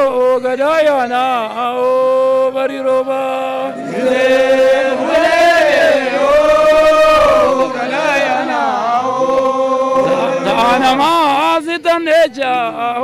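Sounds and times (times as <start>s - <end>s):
voices chanting a song: 0.4s - 11.4s.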